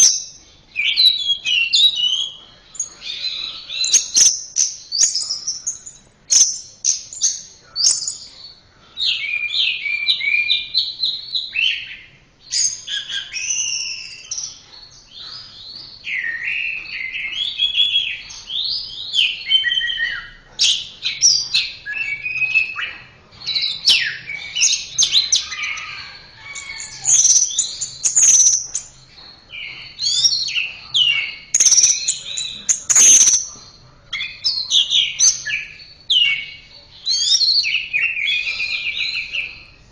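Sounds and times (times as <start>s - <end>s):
thrush singing varied whistled song: 0.0s - 39.9s.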